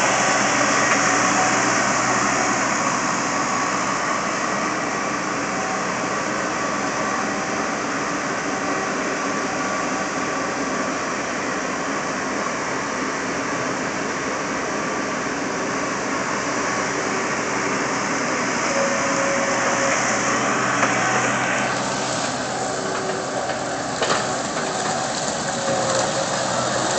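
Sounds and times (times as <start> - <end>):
loader engine running: 0.0 - 26.9.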